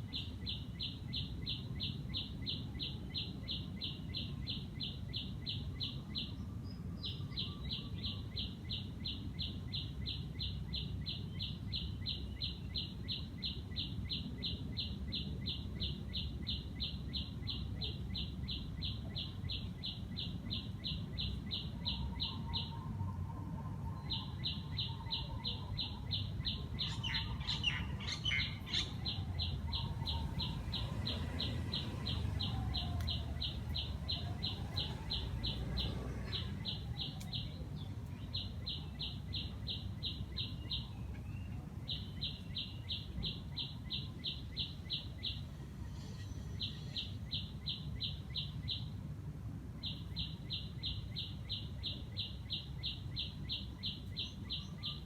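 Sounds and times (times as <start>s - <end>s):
birds twittering: 0.0s - 49.1s, 49.8s - 55.0s.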